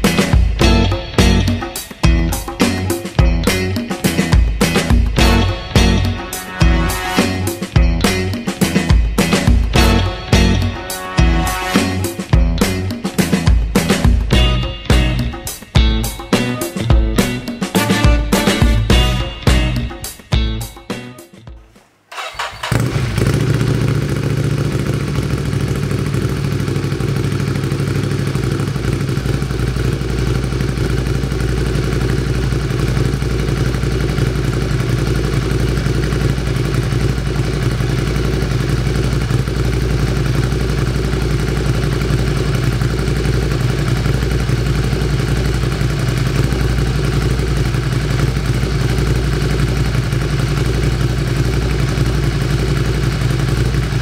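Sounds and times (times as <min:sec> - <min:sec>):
motorcycle engine idling: 0:00.0 - 0:20.8, 0:22.1 - 0:54.0.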